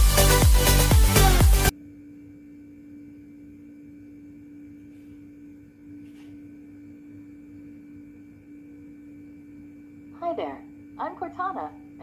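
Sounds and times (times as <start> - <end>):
low electrical hum: 1.7 - 12.0.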